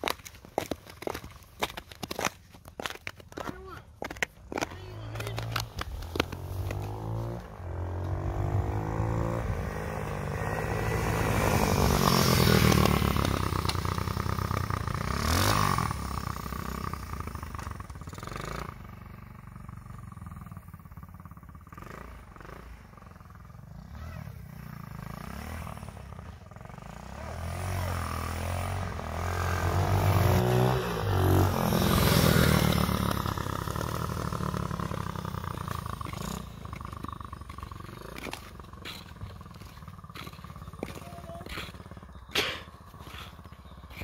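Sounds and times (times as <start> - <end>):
small engine revving: 4.5 - 44.0.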